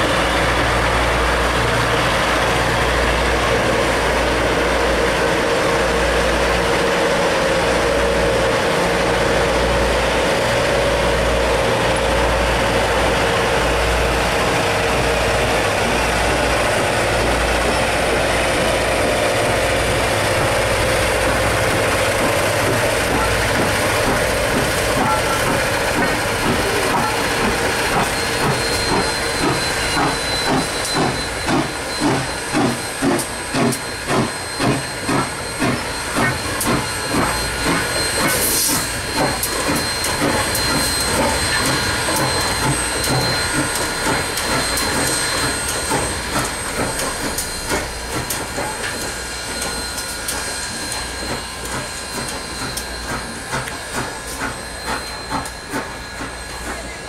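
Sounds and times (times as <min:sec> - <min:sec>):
steam locomotive exhaust chuffs: 0:00.0 - 0:57.0
steady hiss of steam: 0:10.2 - 0:57.0.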